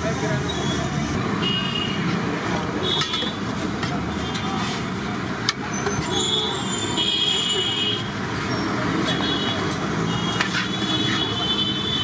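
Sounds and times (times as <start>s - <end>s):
traffic: 0.0s - 12.0s.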